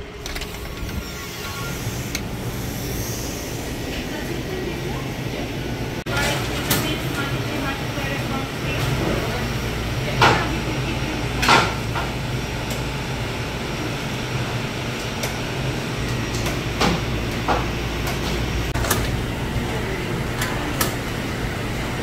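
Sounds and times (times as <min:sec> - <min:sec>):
ventilation hum: 0:00.0 - 0:22.0.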